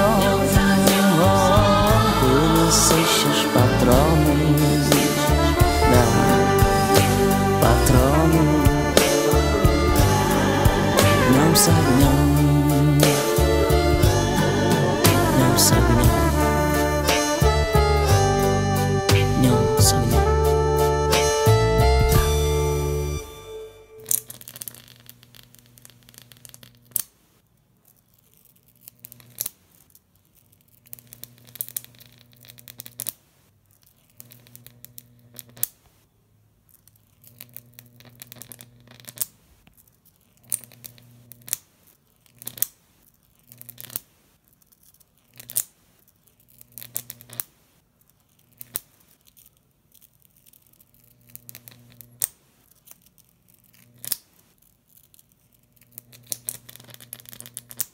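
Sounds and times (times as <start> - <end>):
electric arc snapping: 0.0 - 27.2, 28.5 - 33.2, 34.1 - 35.9, 36.8 - 39.5, 40.2 - 44.2, 44.8 - 47.6, 48.3 - 57.9
electric arc buzzing crackle: 0.0 - 36.0, 36.7 - 57.9.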